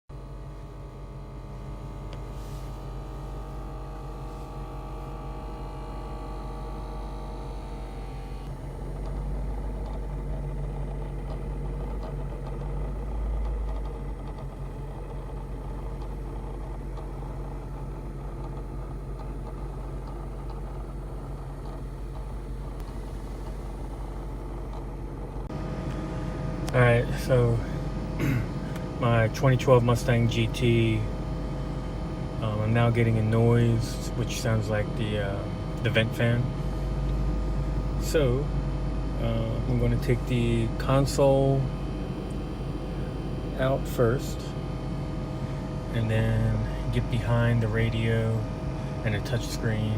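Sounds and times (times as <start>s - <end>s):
car cabin hum: 0.1s - 49.9s
small fan whir and rattle: 0.1s - 49.9s.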